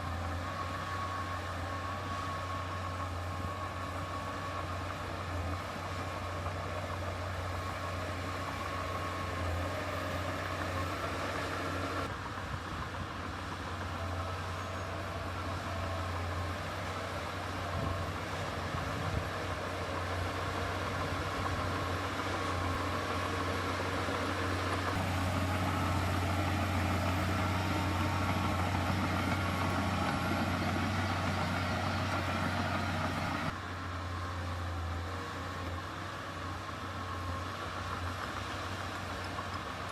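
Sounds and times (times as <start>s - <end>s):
diesel machinery engine hum: 0.0s - 39.9s.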